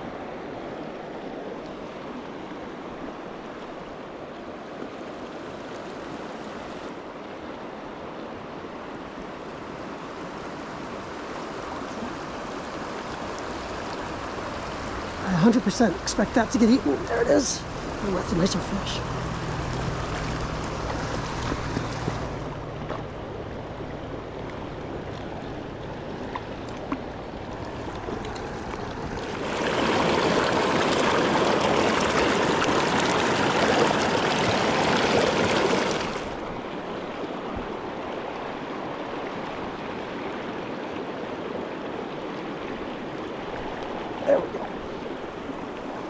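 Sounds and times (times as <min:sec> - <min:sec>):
river water rushing: 0:00.0 - 0:46.0.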